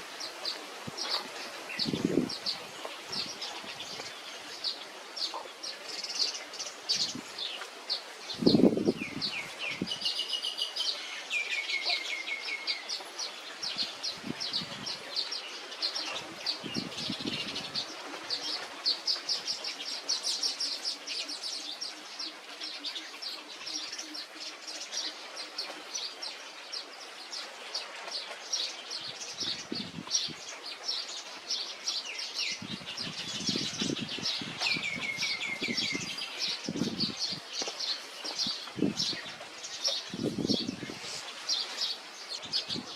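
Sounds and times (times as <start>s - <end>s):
small songbirds chirping: 0.0s - 42.9s.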